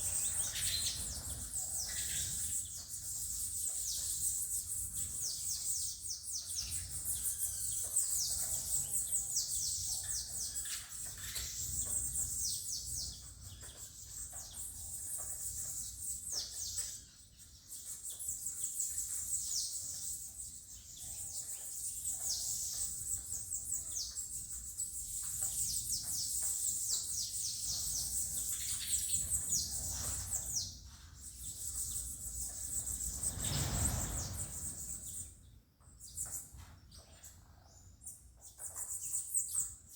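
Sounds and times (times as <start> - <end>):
finches chirping: 0.0 - 35.3.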